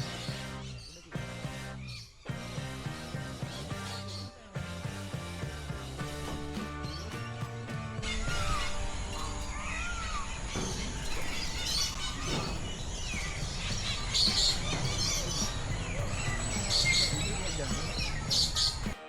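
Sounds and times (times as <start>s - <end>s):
bird chirps: 0.0s - 19.0s
birds calling: 0.0s - 19.0s.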